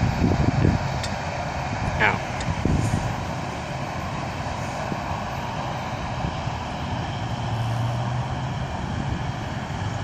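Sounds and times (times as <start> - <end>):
low engine hum: 0.0 - 10.0
road traffic rumble: 0.0 - 10.0.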